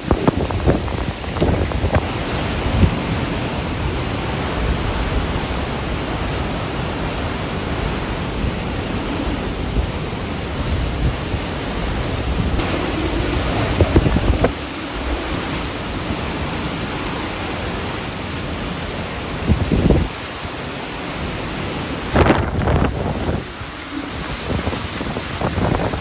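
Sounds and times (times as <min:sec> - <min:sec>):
wind and rain beating on a car: 0:00.0 - 0:26.0.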